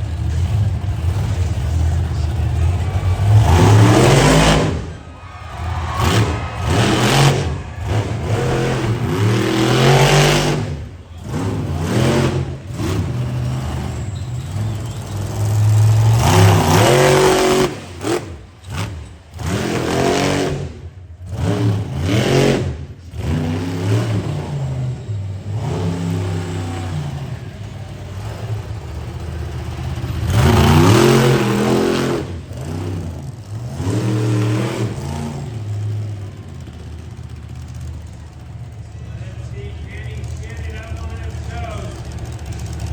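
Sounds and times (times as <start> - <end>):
truck engine revving hard: 0.0 - 42.9.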